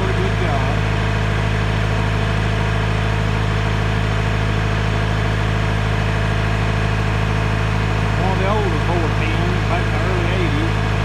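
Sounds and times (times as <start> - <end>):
backhoe engine idling: 0.0 - 11.0.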